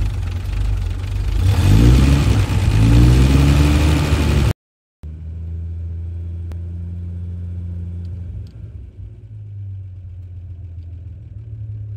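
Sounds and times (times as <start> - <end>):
car engine idling: 0.0 - 3.2, 5.1 - 11.9.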